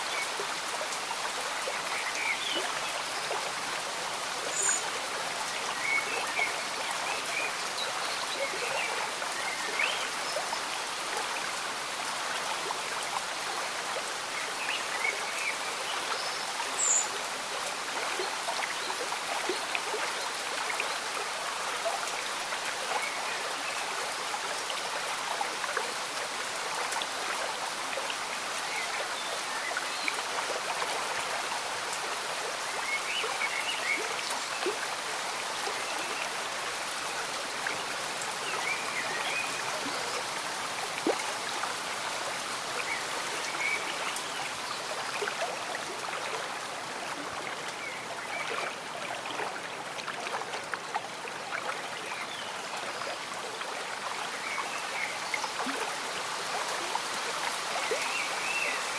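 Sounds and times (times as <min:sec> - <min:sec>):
rain on leaves and water: 0:00.0 - 0:58.9
stream bubbling and trickling: 0:00.0 - 0:58.9.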